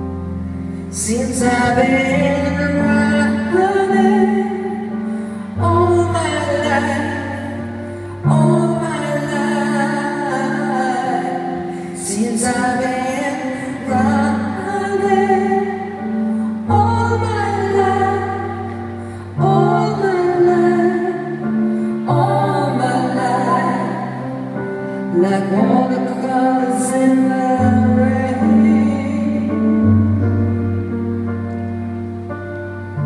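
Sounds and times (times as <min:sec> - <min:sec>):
soft band accompaniment: 0:00.0 - 0:33.0
woman singing: 0:00.9 - 0:24.5, 0:25.1 - 0:30.1.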